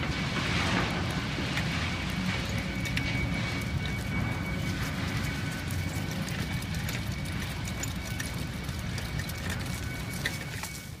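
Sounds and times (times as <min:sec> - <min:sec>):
tricycle rolling on dirt trail: 0:00.0 - 0:11.0
small clicks and rattles: 0:01.0 - 0:11.0
thin steady high tone: 0:02.1 - 0:11.0.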